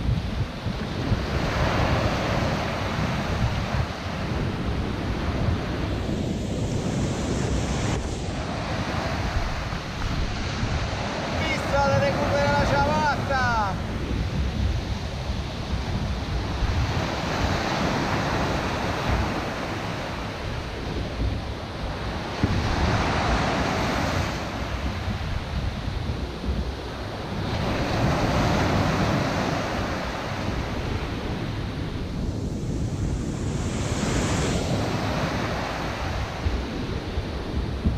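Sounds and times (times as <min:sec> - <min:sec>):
surf breaking on beach: 0:00.0 - 0:37.9
wind noise on microphone: 0:00.0 - 0:37.9.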